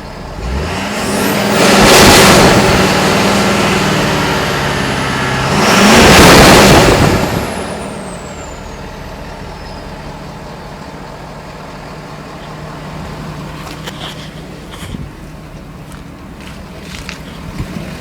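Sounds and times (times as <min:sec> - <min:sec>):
diesel engine revving and idling: 0:00.0 - 0:18.0
high turbo whine: 0:00.0 - 0:18.0.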